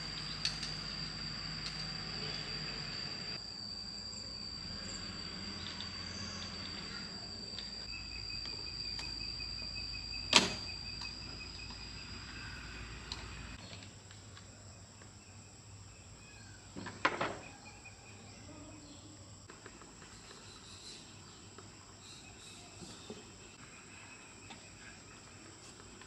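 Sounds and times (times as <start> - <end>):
faint insect chirring: 0.0 - 26.0.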